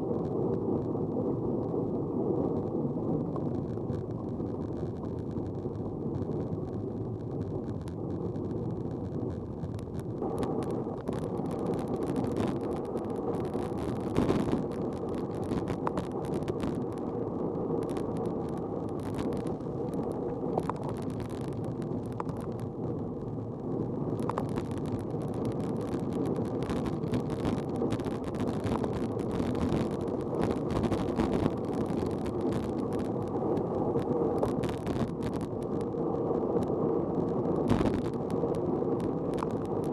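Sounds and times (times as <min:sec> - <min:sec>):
crackly rustling noise: 0:00.0 - 0:39.9
wind and road noise: 0:00.0 - 0:39.9.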